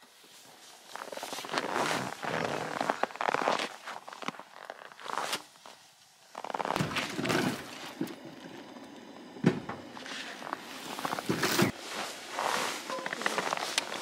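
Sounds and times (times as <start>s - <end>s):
footsteps crunching on snow: 0.1s - 8.0s, 10.0s - 14.0s.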